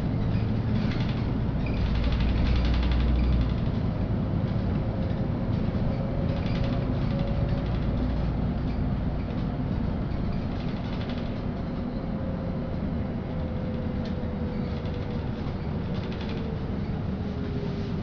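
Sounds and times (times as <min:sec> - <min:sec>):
bus engine and road rumble: 0:00.0 - 0:18.0
light rattles: 0:00.1 - 0:11.8, 0:13.3 - 0:18.0.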